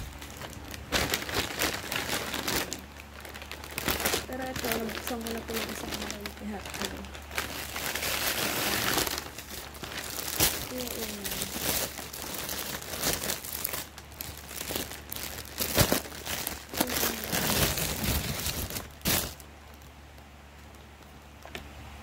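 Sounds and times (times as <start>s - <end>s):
plastic packaging crinkling: 0.0s - 21.5s.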